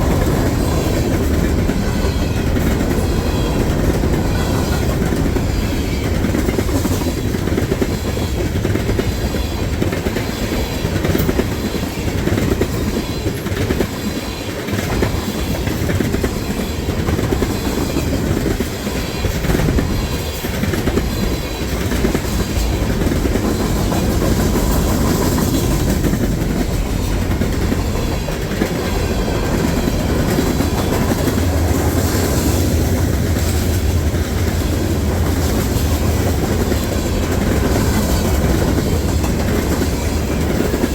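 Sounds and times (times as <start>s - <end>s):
freight train wheels rumbling: 0.0s - 40.9s
wheels clacking over rail joints: 0.0s - 40.9s.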